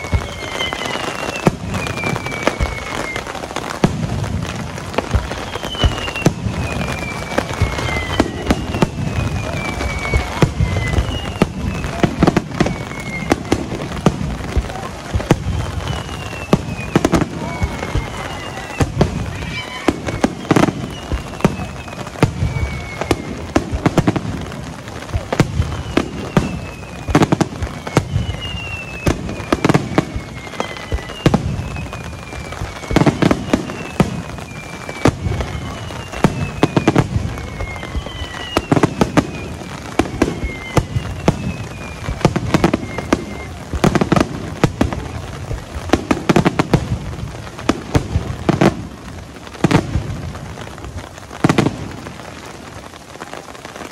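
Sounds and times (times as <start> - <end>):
falling firework whistles: 0.0 - 53.9
fireworks booms and bangs: 0.0 - 53.9.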